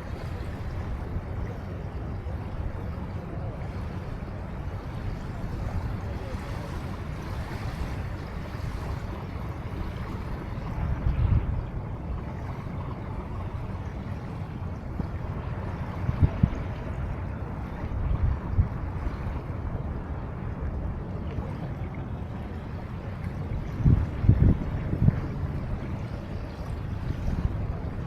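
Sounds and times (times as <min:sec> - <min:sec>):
water noise: 0:00.0 - 0:28.0
wind rumbling on microphone: 0:00.0 - 0:28.0.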